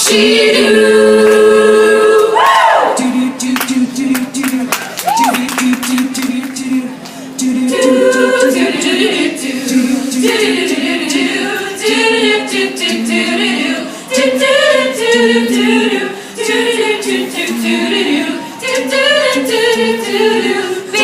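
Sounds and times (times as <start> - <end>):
women singing a cappella harmonies: 0.0 - 21.0.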